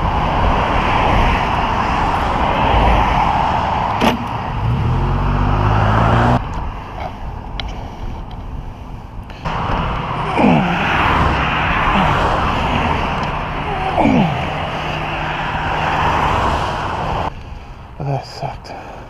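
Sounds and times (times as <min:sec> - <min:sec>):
wind and ground noise: 0:00.0 - 0:19.0.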